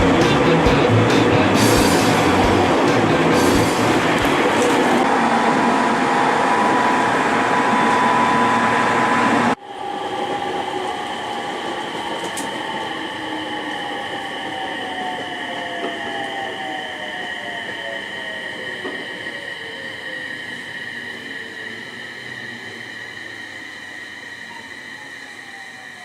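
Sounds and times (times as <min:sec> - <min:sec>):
falling whine: 0:00.0 - 0:26.0
steady whining tones: 0:00.0 - 0:26.0
train running rush: 0:00.0 - 0:26.0.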